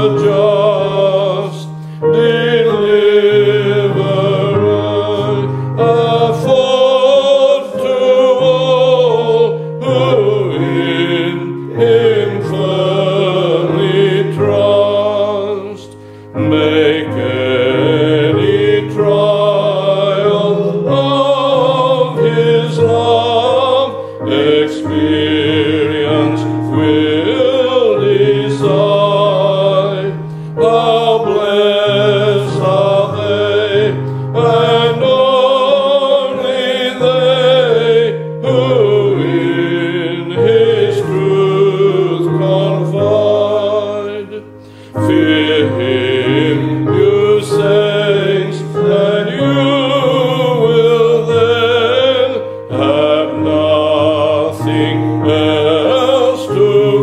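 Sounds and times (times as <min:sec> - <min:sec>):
hymn singing: 0:00.0 - 0:57.0
piano accompaniment: 0:00.0 - 0:57.0.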